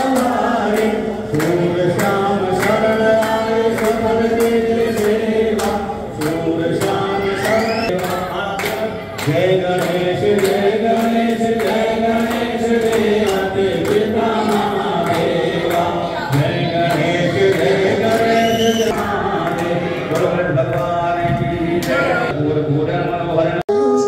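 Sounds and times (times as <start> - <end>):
group singing a chant: 0.0 - 23.8.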